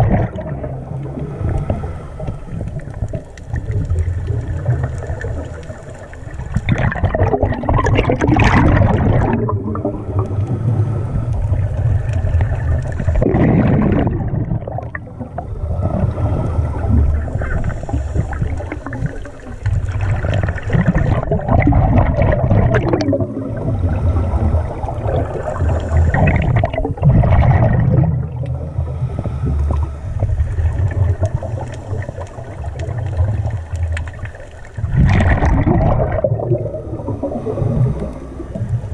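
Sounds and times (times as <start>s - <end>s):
exhaled bubbles gurgling: 0.0s - 38.9s
steady low underwater rumble: 0.0s - 38.9s.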